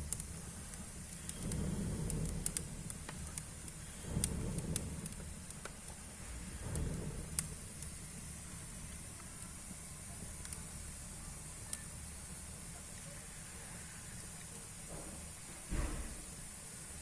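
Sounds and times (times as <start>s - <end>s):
fire crackles and pops: 0.0s - 17.0s
low roar of flames: 0.0s - 17.0s.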